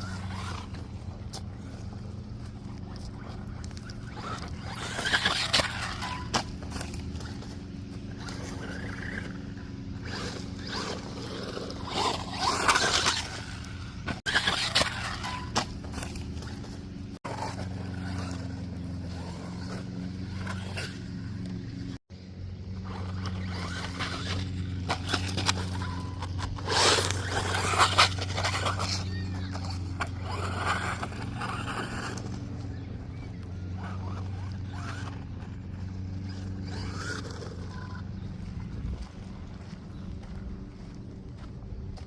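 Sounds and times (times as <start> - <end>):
toy car motor drone: 0.0 - 39.0
tires scraping over ground: 0.0 - 42.0.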